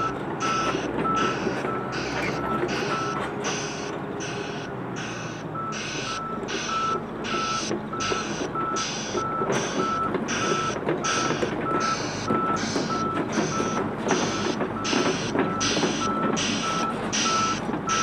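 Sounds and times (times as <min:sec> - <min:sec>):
excavator tracks running: 0:00.0 - 0:18.0
travel alarm beeping: 0:00.0 - 0:18.0.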